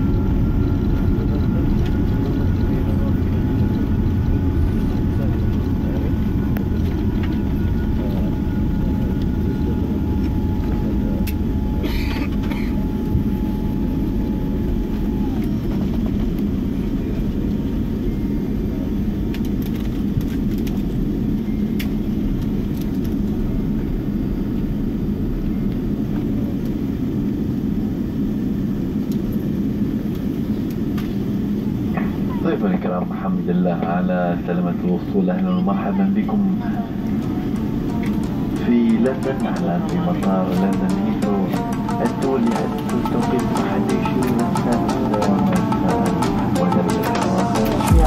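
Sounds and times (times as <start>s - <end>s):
airplane cabin rumble: 0.0s - 48.0s
thin steady whine: 0.0s - 48.0s.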